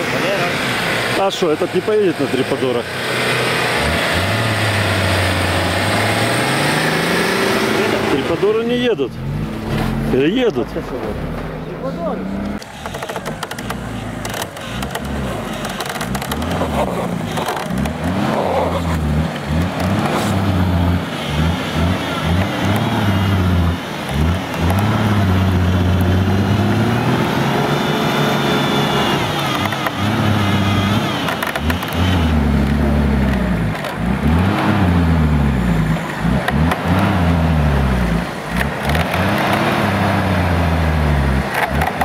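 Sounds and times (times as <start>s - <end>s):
off-road vehicle engine revving: 0.0s - 42.0s.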